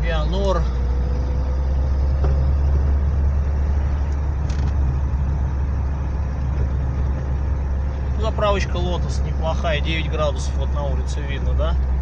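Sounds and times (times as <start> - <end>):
car engine and tyres on wet road: 0.0 - 12.0.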